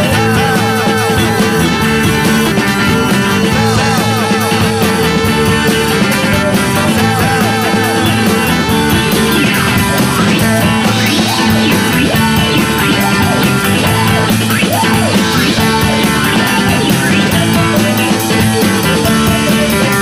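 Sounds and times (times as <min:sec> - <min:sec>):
instrumental psychedelic rock music: 0:00.0 - 0:20.0.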